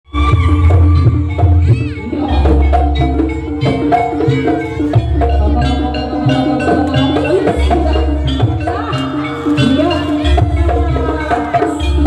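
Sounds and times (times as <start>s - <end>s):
drum strokes: 0.1s - 12.0s
gamelan percussion: 0.1s - 12.0s.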